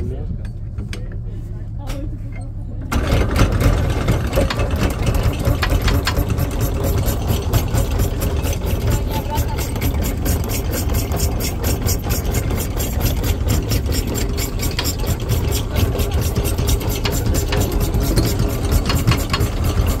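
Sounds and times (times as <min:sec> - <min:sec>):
anchor windlass drone: 0:03.0 - 0:20.0.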